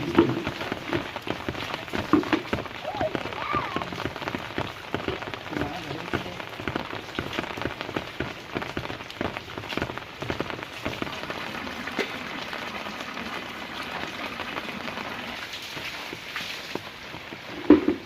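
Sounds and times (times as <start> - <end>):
rain falling on a hard surface: 0.0 - 18.0.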